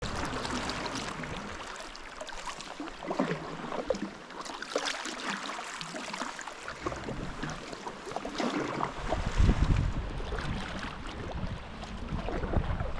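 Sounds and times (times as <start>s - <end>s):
water lapping around kayak: 0.0s - 12.9s.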